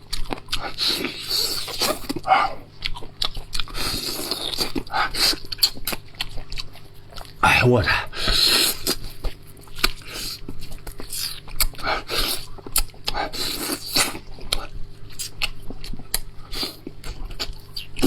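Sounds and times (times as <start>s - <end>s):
chewing and lip-smacking: 0.0s - 18.0s.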